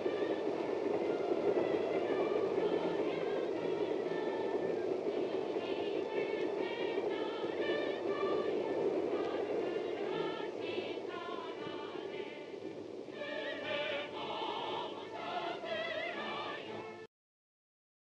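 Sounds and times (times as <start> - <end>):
choir singing with vibrato: 0.0 - 17.1
train rumbling: 0.0 - 17.1.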